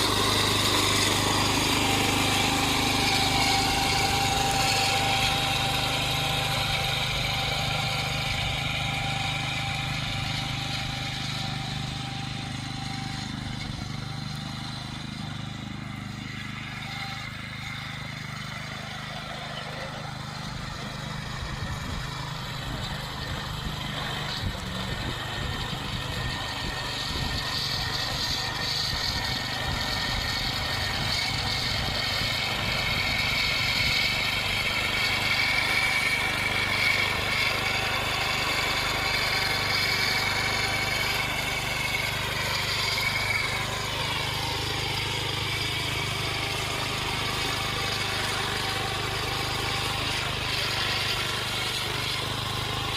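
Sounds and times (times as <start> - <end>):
walk-behind tractor engine running: 0.0 - 52.9.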